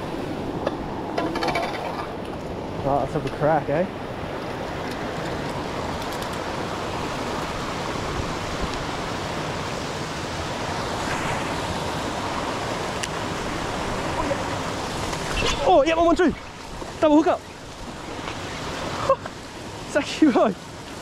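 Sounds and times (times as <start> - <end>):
creek water rushing over rocks: 0.0 - 21.0.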